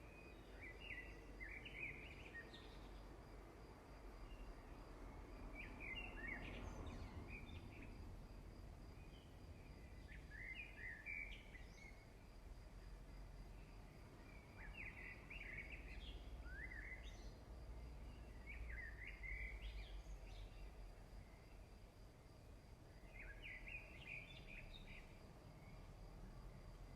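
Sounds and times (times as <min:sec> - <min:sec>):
faint birds chirping: 0:00.0 - 0:26.9.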